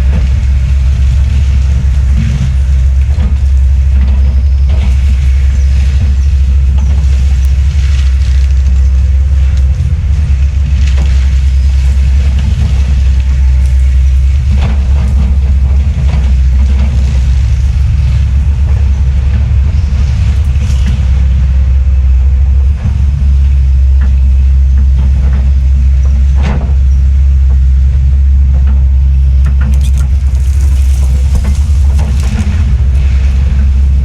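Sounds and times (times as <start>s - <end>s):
heavy diesel machinery droning: 0.0s - 34.0s.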